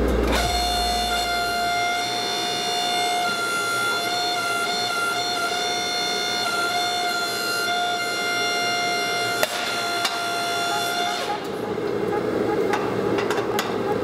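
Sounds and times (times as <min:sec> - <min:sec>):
hydraulic press whining: 0:00.0 - 0:14.0.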